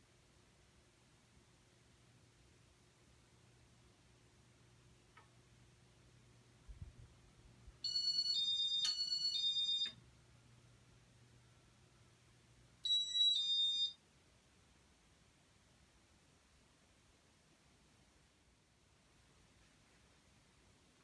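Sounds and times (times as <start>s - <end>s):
faint fan motor hum: 0.0s - 21.0s.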